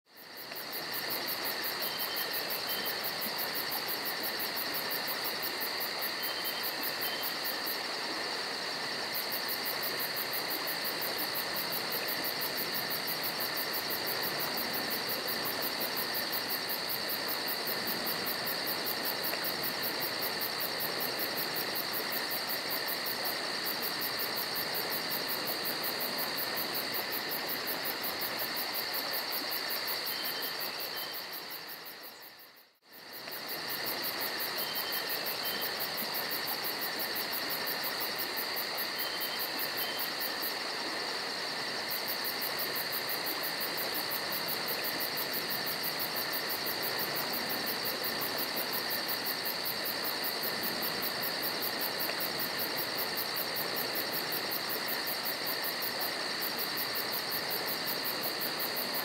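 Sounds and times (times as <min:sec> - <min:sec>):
insects chirping: 0:00.1 - 0:59.0.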